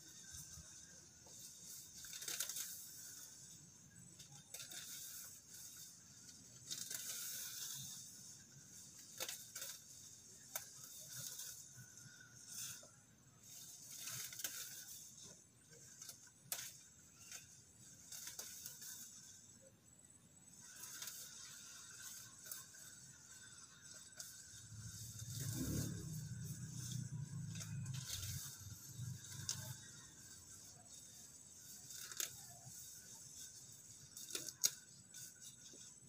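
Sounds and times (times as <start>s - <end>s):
weeds rustling and tearing: 0.0s - 19.7s, 20.5s - 36.0s.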